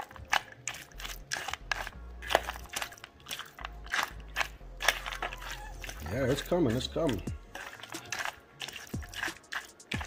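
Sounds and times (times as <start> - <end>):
kibble crunching: 0.0 - 10.0
metal spoon scraping steel bowl: 0.0 - 10.0.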